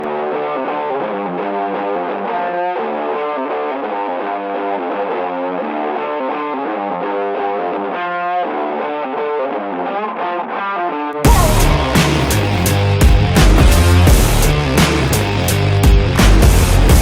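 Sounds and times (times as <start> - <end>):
distorted electric guitar music: 0.0 - 17.0.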